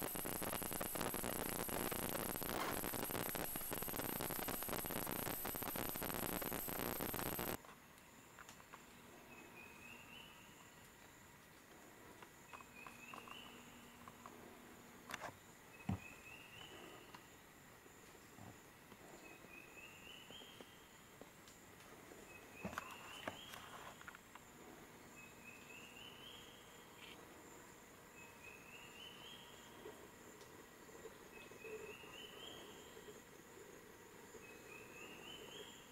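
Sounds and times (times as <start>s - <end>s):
insects chirring: 0.0s - 11.4s, 12.2s - 35.9s.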